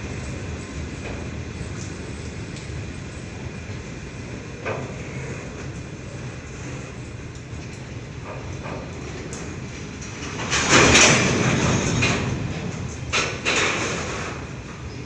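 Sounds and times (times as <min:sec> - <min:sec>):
freight wagons rolling on rails: 0:00.0 - 0:15.0.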